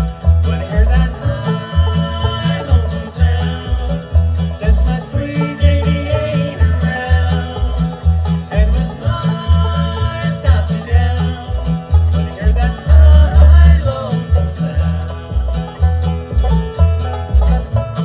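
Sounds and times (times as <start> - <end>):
bluegrass band playing: 0.0 - 18.0
upright bass plucking: 0.0 - 18.0.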